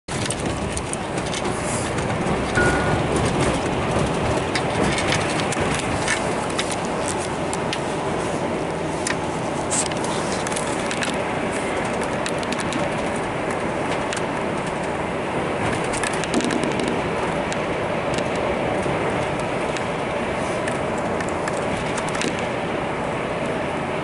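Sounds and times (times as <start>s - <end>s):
vehicle cabin rumble: 0.1s - 24.0s.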